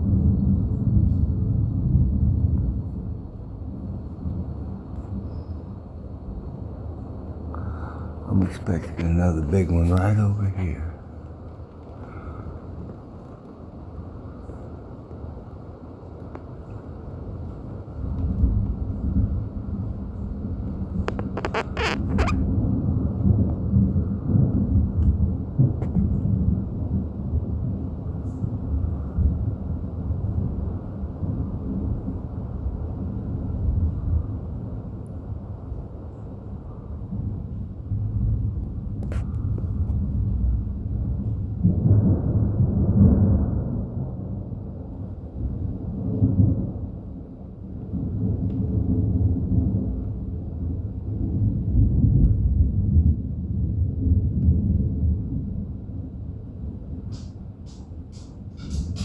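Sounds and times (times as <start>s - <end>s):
thunder rumbling: 0.0s - 59.0s.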